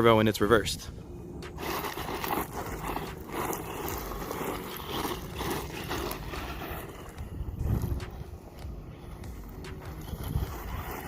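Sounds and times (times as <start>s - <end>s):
tyres crunching on dirt: 1.4s - 11.0s.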